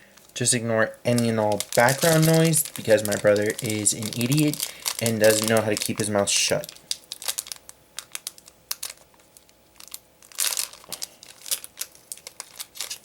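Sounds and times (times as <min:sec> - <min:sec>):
foil wrapper crinkling and tearing: 0:01.1 - 0:13.0.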